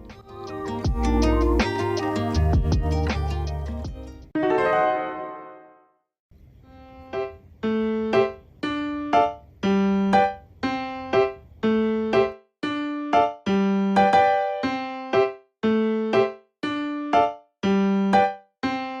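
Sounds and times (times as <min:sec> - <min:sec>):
light keyboard chords: 0:00.0 - 0:05.9, 0:06.9 - 0:19.0
piano music: 0:00.0 - 0:06.0, 0:06.8 - 0:19.0.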